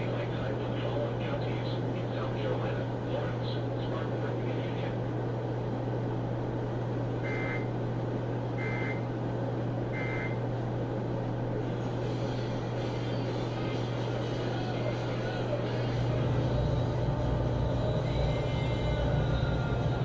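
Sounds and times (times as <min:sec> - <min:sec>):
radio hum and static: 0:00.0 - 0:20.0.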